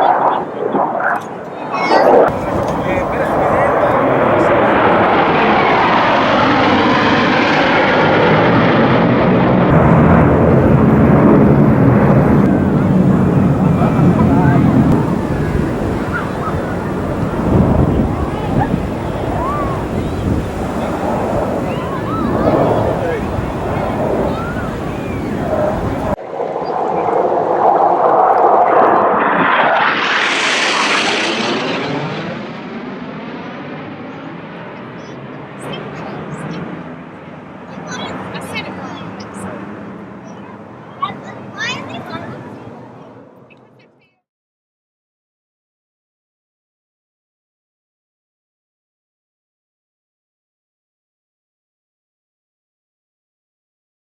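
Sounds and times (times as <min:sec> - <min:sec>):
jet aircraft flying past: 0:00.0 - 0:43.7.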